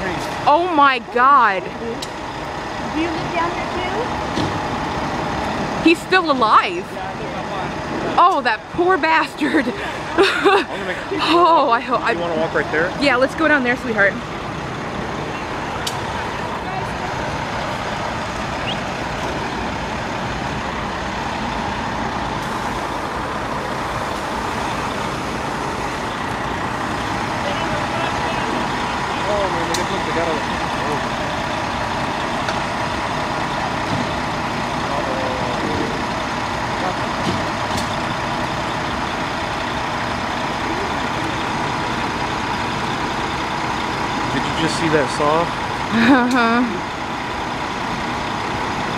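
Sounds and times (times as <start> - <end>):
diesel engines idling: 0.0 - 48.9.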